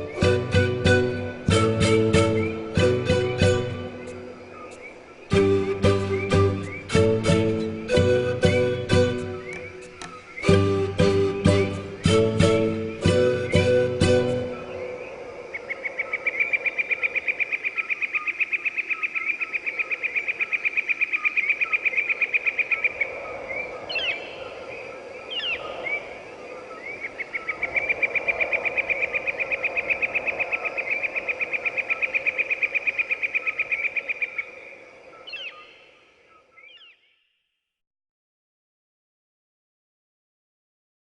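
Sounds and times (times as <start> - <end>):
sweeping bird chirps: 0.0 - 37.3.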